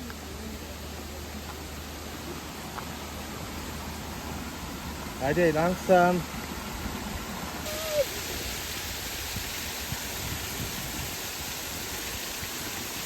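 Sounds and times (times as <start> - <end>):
waterfall rushing: 0.3 - 13.0.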